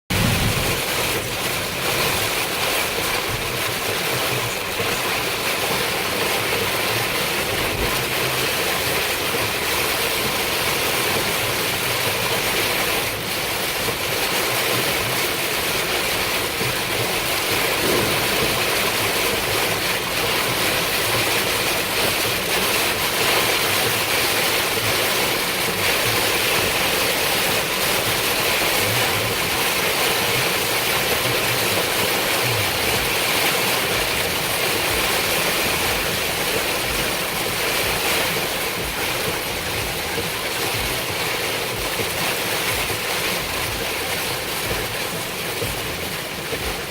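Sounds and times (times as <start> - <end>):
car road and engine noise: 0.1 - 46.9
heavy rain pelting a car: 0.1 - 46.9.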